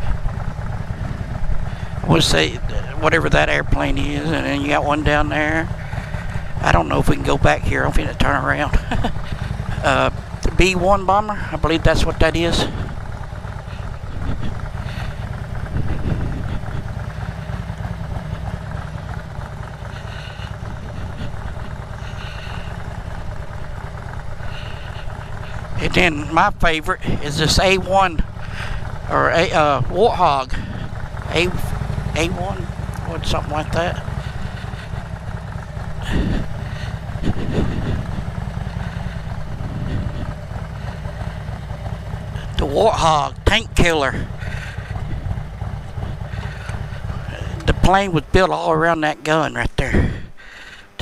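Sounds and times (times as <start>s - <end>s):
motorcycle engine at low revs: 0.0s - 51.0s.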